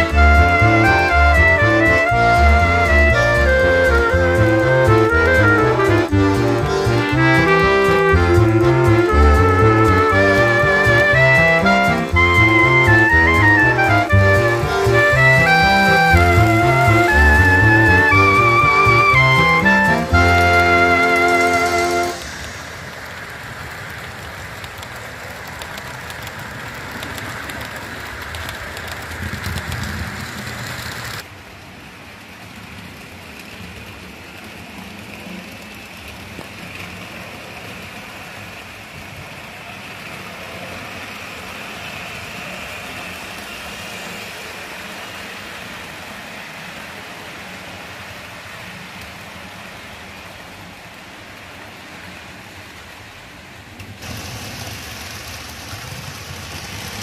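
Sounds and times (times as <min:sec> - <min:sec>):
model trains rolling: 0:00.0 - 0:57.0.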